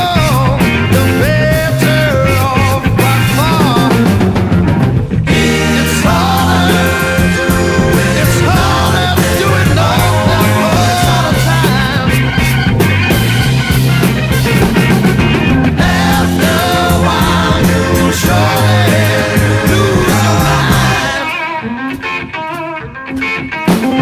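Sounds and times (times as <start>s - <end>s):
low bass notes: 0.0s - 21.4s
psychedelic rock band: 0.0s - 24.0s.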